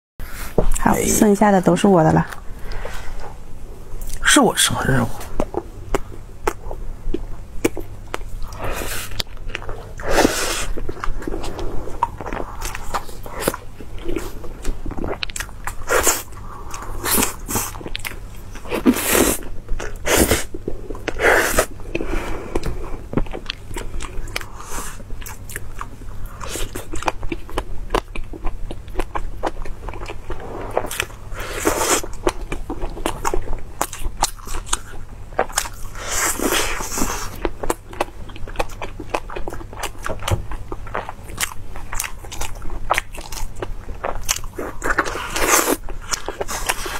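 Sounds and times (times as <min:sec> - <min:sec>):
person chewing food: 0:04.9 - 0:46.9.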